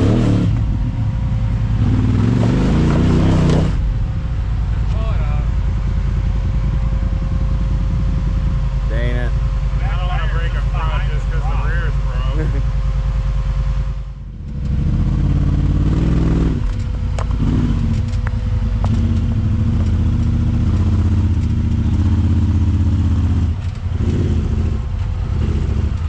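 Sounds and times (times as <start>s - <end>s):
utility vehicle engine revving: 0.0s - 26.0s.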